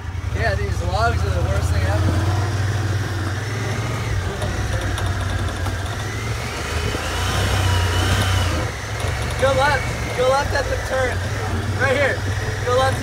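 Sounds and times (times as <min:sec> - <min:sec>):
engine whine: 0:00.0 - 0:13.0
utility vehicle engine running: 0:00.0 - 0:13.0.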